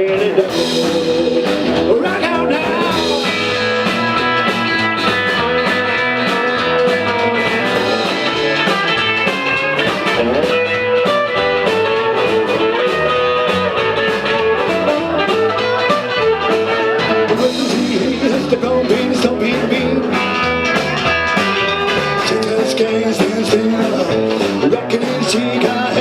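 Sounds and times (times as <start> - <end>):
electric guitar playing lead: 0.0 - 26.0
steady drum beat: 0.0 - 26.0.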